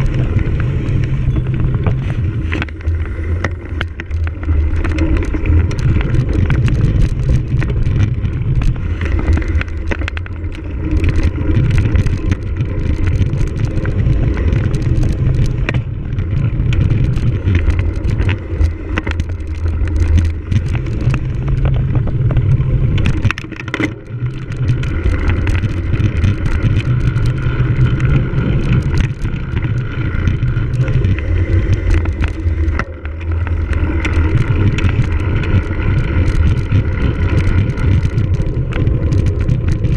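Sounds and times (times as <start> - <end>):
bike rattling and clicking: 0.0 - 39.9
wind rumble on microphone: 0.0 - 39.9.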